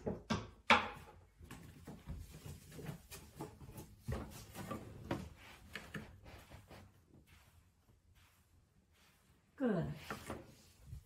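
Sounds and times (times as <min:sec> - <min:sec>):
soft knocks and rustling: 0:00.0 - 0:08.4, 0:10.0 - 0:11.0
footsteps on wooden floor: 0:01.4 - 0:10.6.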